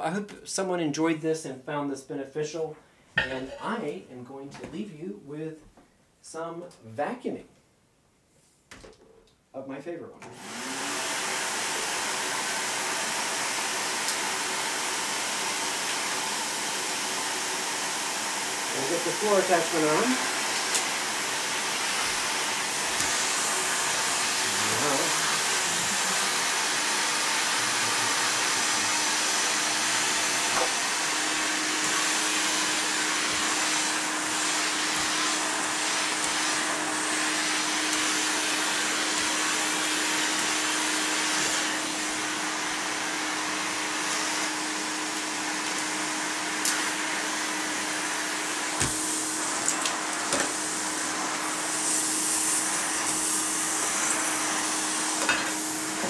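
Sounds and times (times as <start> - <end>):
vacuum cleaner running: 10.2 - 56.0.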